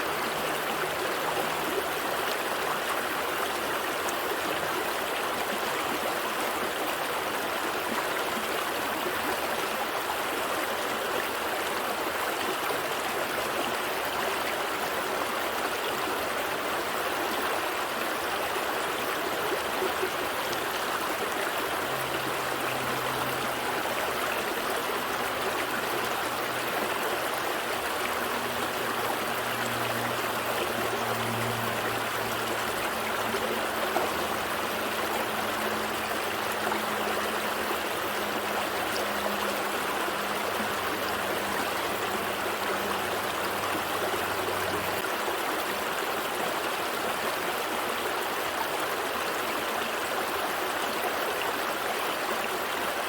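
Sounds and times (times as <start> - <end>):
stream flowing: 0.0 - 53.0.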